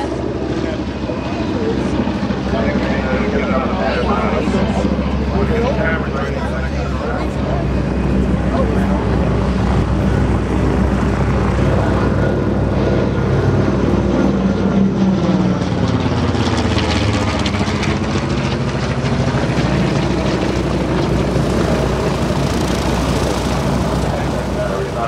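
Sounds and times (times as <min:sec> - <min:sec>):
propeller plane flying overhead: 0:00.0 - 0:25.0.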